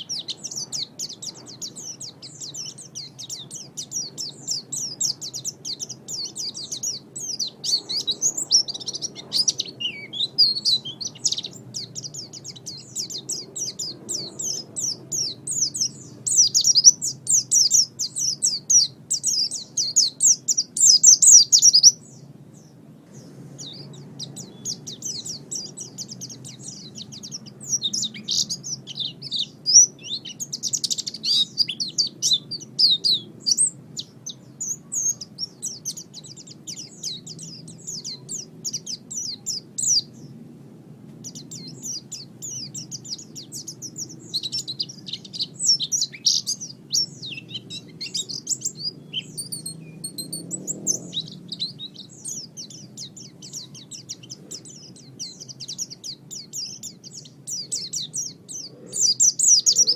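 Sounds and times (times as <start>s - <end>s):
bird twittering song: 0.0s - 40.4s, 41.0s - 59.9s.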